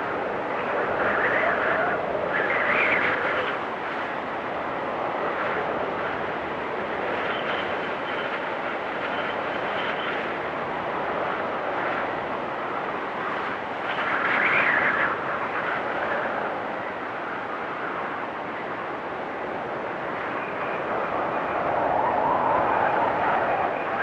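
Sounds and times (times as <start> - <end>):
storm wind gusting and whistling: 0.0 - 24.0.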